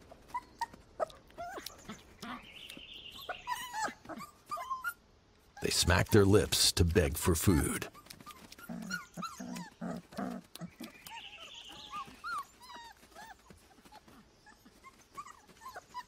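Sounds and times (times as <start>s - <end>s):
wolf pups whining and squeaking: 0.0s - 6.2s, 7.9s - 16.0s.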